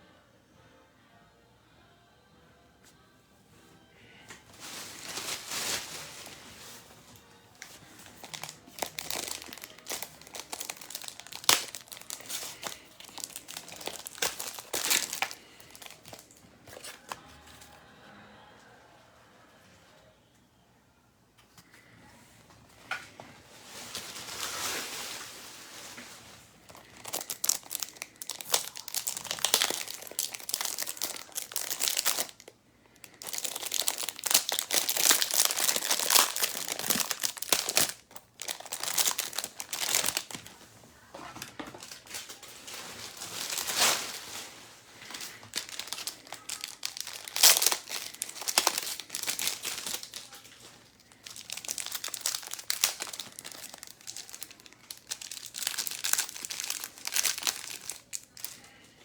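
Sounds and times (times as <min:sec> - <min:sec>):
plastic wrapping crinkling and tearing: 0:04.4 - 0:17.7, 0:22.9 - 0:40.6, 0:41.2 - 0:58.8.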